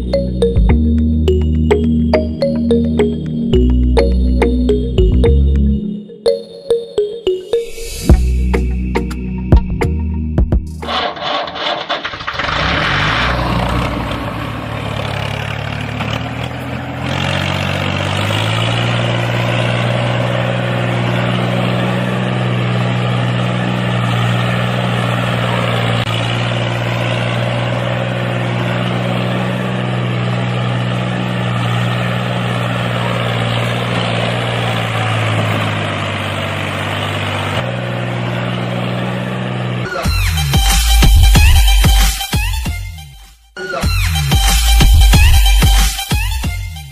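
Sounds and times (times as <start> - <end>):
tractor engine running: 0.0 - 6.4, 7.0 - 42.5, 44.0 - 46.9.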